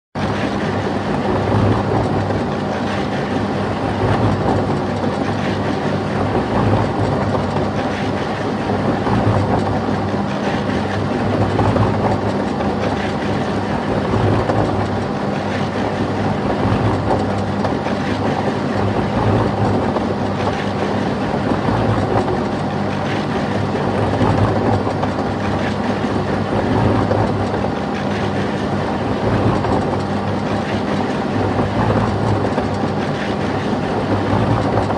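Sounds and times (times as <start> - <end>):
concrete mixer motor hum: 0.2 - 34.9
mixer drum rattling clatter: 0.2 - 34.9.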